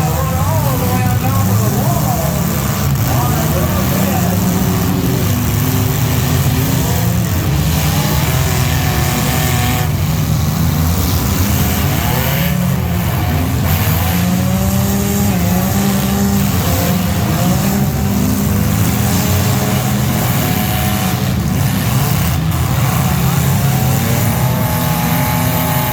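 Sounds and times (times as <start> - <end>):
race engines running hard: 0.0 - 25.9.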